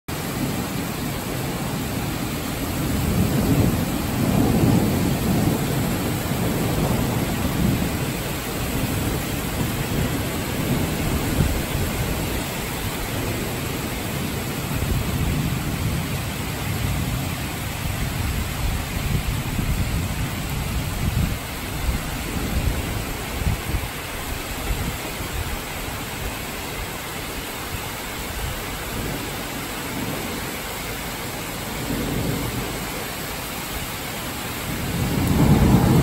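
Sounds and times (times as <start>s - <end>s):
heavy rain pouring: 0.1s - 36.0s
thunder rumble: 0.1s - 36.0s.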